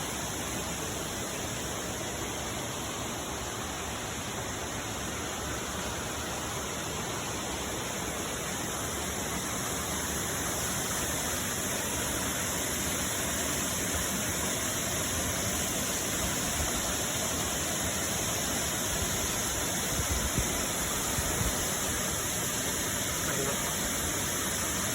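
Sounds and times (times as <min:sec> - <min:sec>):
waterfall roaring: 0:00.1 - 0:24.9.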